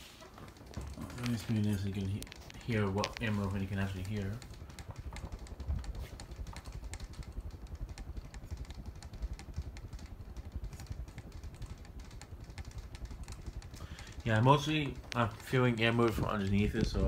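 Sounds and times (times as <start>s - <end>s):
ceiling fan running: 0.0s - 17.0s
fan clicking: 0.0s - 17.0s.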